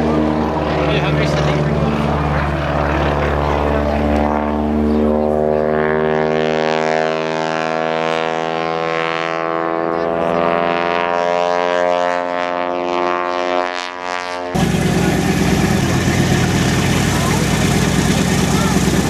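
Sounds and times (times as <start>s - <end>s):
propeller airplane engine droning: 0.0s - 19.0s.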